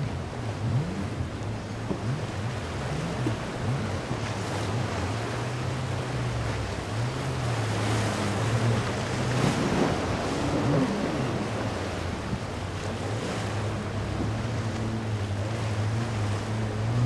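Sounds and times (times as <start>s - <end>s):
boat engines droning: 0.0s - 17.0s
surf breaking: 0.0s - 17.0s
wind buffeting microphone: 0.0s - 17.0s.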